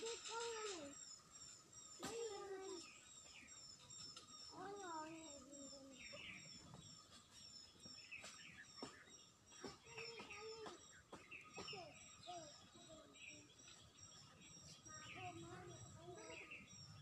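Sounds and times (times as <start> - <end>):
high-pitched chirping: 0.0 - 17.0.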